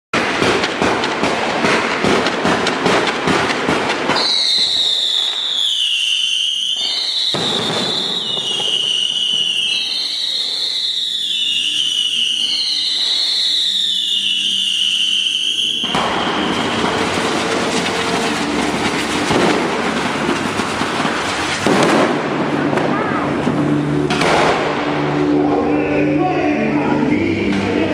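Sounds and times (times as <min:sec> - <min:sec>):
whistling fireworks: 0:00.2 - 0:25.4
fireworks crackling: 0:00.2 - 0:25.7.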